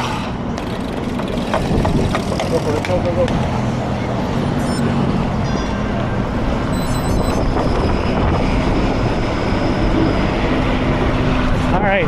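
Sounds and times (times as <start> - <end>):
passing motor traffic hum: 0.0 - 12.0
wind and road noise: 0.0 - 12.0.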